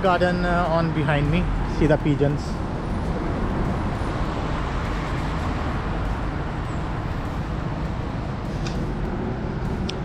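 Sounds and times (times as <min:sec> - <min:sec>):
traffic on wet road: 0:00.0 - 0:10.0.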